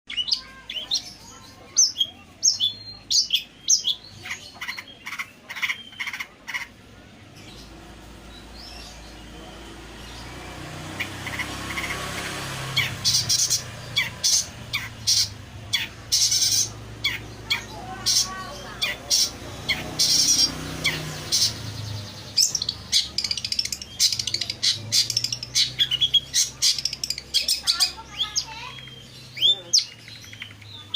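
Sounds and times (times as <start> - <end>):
shrike chirping and squawking: 0.1 - 30.9.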